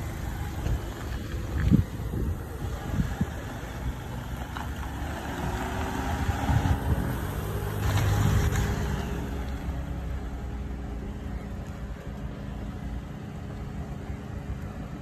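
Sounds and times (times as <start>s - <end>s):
car pulling away and driving past: 0.0s - 15.0s.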